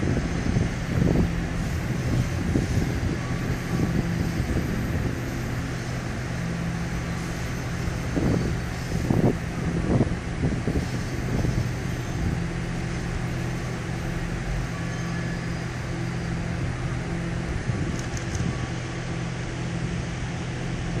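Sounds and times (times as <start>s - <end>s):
idling train hum: 0.0s - 21.0s.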